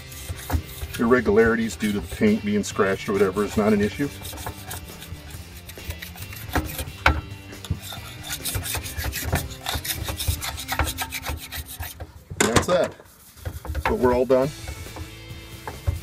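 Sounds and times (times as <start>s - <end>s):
hand scraper rasping on metal: 0.0s - 16.0s.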